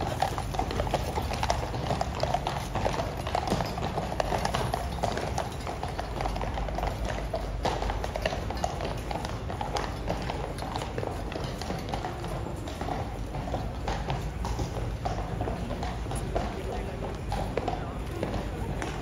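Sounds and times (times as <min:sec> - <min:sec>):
hooves clip-clopping on stone: 0:00.0 - 0:19.0.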